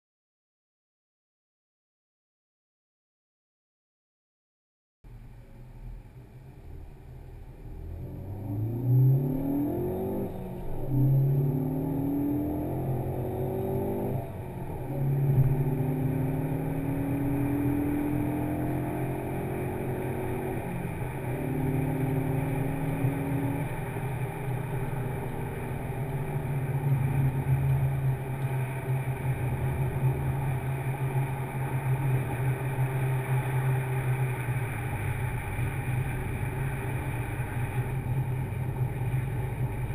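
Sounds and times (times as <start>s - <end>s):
car engine accelerating: 5.1s - 39.9s.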